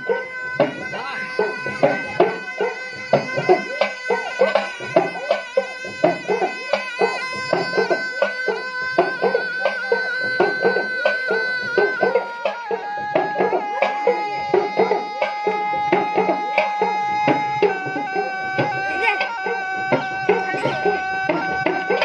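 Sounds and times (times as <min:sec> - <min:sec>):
drum beats: 0:00.0 - 0:22.0
reedy pipe melody with drone: 0:00.0 - 0:22.0.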